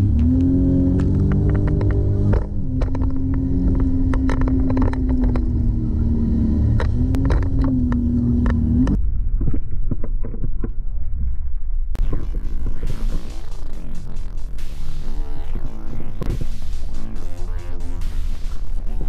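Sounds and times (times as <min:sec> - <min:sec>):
watercraft engine running: 0:00.0 - 0:09.0, 0:12.0 - 0:19.0.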